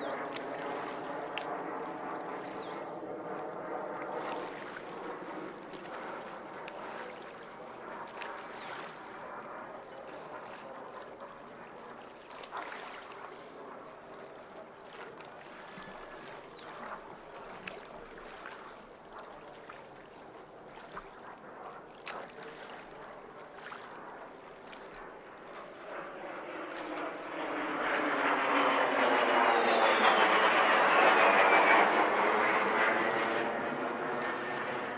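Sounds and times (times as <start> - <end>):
aircraft engines droning: 0.0 - 18.1, 18.7 - 34.9.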